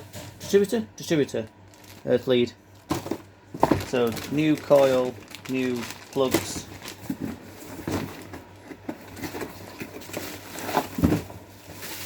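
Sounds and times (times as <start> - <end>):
packaging rustling: 1.5 - 12.0.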